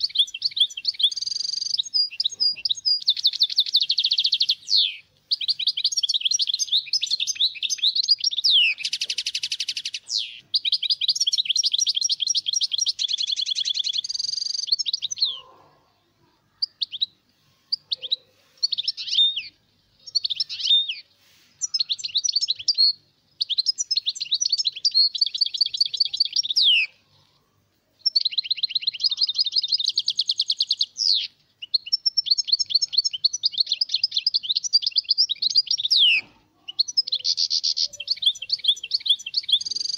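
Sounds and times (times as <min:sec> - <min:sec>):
goldfinch singing: 0:00.0 - 0:15.7, 0:16.6 - 0:27.0, 0:28.0 - 0:39.9.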